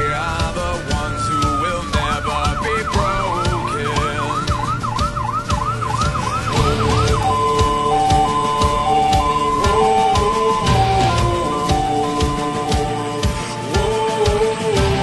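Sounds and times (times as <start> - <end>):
ambulance siren: 0.0 - 15.0
music: 0.0 - 15.0.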